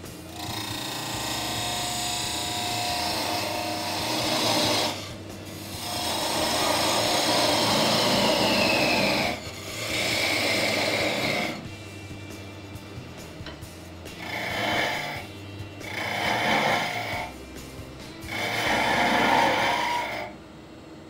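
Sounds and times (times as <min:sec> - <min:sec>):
chisel scraping wood on lathe: 0:00.3 - 0:20.4.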